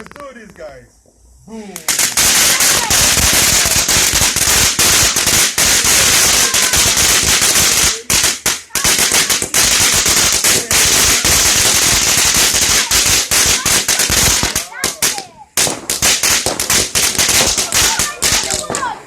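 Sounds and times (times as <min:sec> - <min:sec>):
firework crackling pops: 0:00.0 - 0:19.0
firework hiss: 0:00.0 - 0:19.0.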